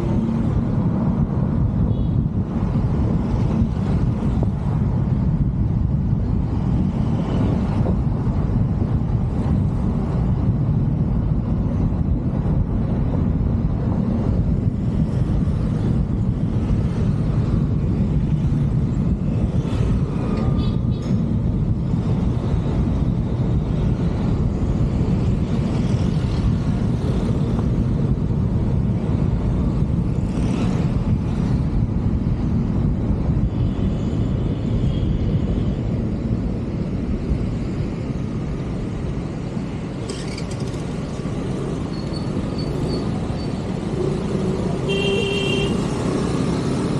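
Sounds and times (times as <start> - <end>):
wind buffeting microphone: 0.0 - 45.0
tyre road noise: 0.0 - 46.9.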